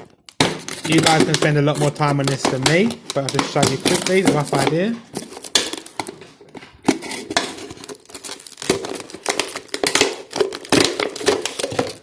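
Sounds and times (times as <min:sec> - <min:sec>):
plastic bottle being cut: 0:00.0 - 0:12.0.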